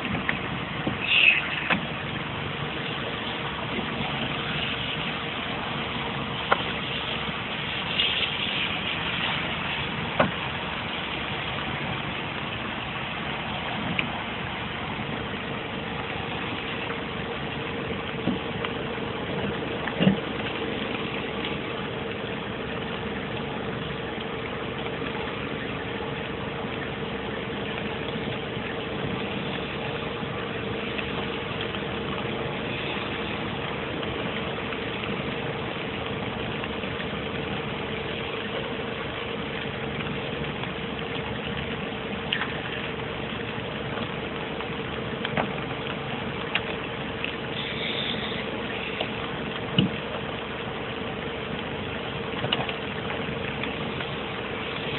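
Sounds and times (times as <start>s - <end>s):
engine idling hum: 0.0s - 54.9s.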